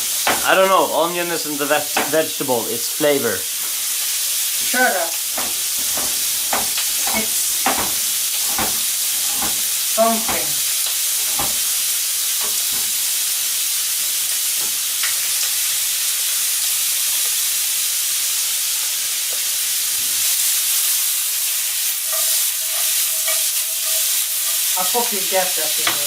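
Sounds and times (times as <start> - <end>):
bacon sizzling in a pan: 0.0 - 26.0.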